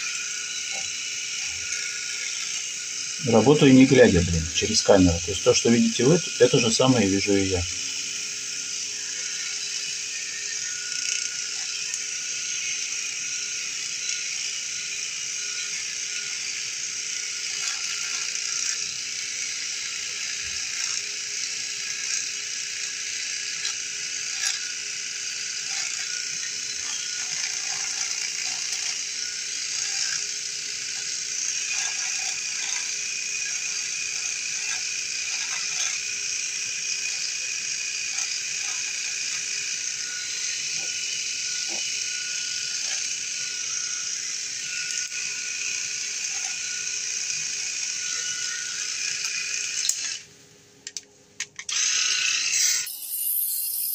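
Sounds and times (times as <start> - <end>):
electric shaver running: 0.0 - 50.4, 51.6 - 53.9
crackles of hairs being cut: 0.0 - 53.9.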